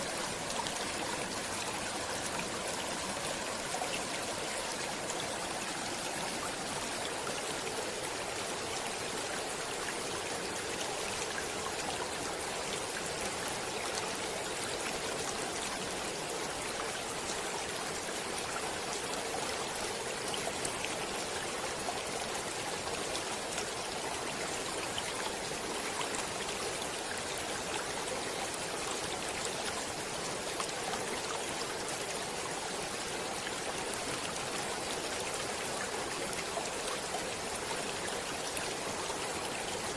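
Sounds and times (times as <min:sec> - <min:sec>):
stream water flowing and trickling: 0:00.0 - 0:39.9.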